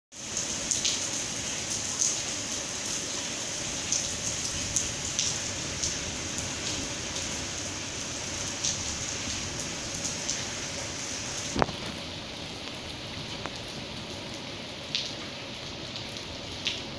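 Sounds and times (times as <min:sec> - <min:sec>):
rain on a tiled floor: 0:00.1 - 0:16.9
water drips splashing: 0:00.2 - 0:12.0, 0:12.6 - 0:16.9.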